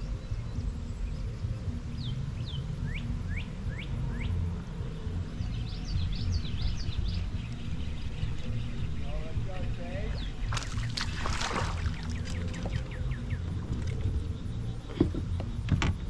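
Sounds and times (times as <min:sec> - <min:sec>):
birds chirping: 0:00.0 - 0:16.0
wind rumble on microphone: 0:00.0 - 0:16.0.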